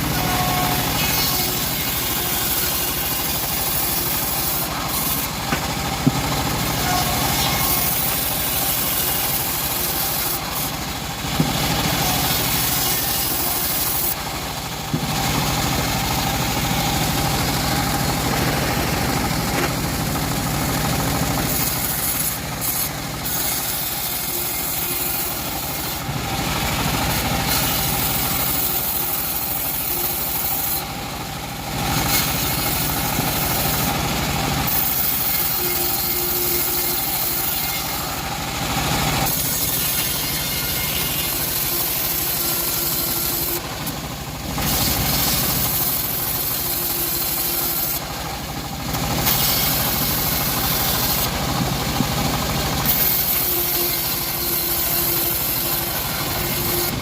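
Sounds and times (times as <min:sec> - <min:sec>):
chainsaw cutting wood: 0:00.0 - 0:19.9, 0:20.7 - 0:31.0, 0:31.8 - 0:57.0.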